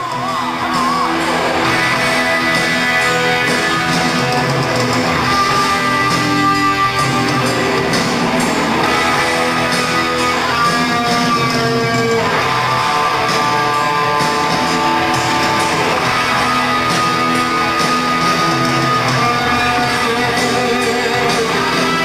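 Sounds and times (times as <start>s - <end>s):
hard rock band playing live: 0.0s - 22.0s.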